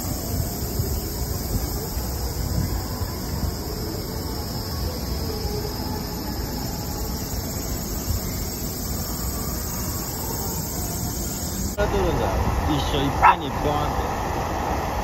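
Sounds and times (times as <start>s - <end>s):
cicadas buzzing: 0.0s - 14.1s.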